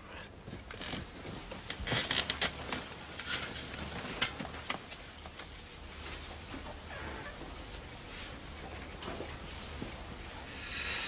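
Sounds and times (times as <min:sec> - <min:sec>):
bedding rustling: 0:00.4 - 0:10.5.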